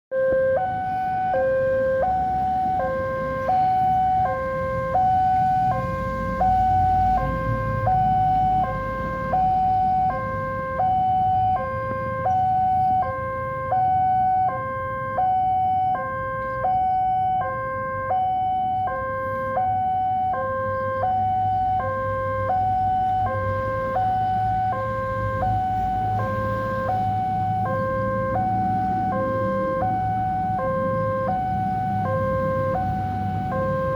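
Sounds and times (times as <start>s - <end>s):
two-tone level crossing alarm: 0.1s - 33.9s.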